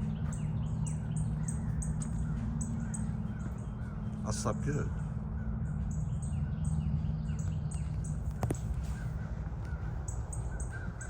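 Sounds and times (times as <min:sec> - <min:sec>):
birds calling: 0:00.0 - 0:11.0
steady low rumble: 0:00.0 - 0:11.0.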